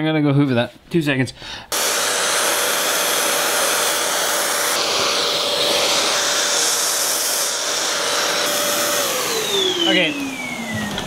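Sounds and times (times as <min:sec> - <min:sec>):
vacuum cleaner running: 0:01.7 - 0:11.0.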